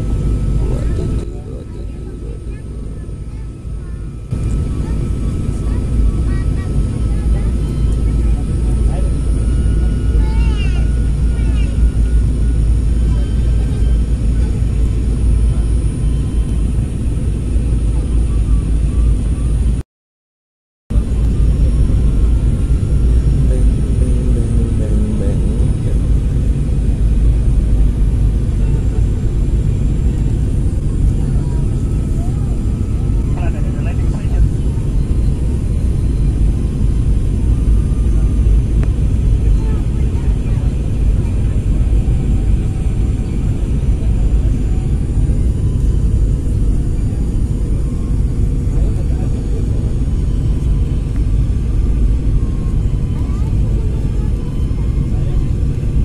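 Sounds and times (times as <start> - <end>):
jet engines rumbling in cabin: 0.0 - 19.8, 20.9 - 56.0.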